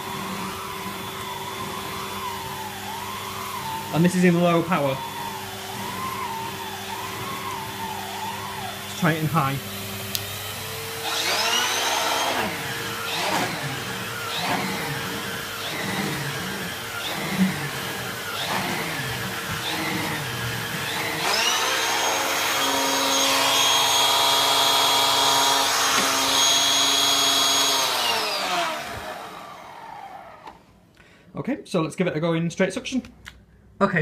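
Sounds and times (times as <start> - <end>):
vacuum cleaner whine: 0.0 - 30.8.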